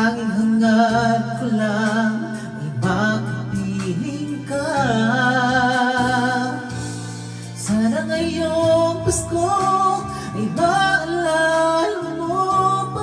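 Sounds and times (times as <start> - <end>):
backing track music: 0.0 - 13.0
man singing into microphone: 0.0 - 13.0.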